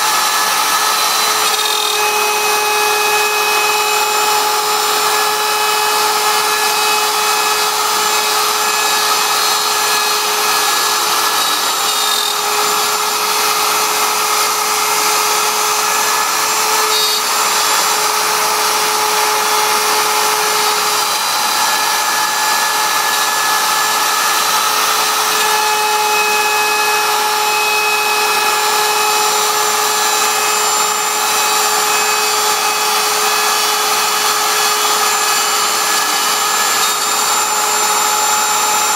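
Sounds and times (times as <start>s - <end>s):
bit cutting into wood: 0.0s - 38.9s
router spindle whine: 0.0s - 38.9s.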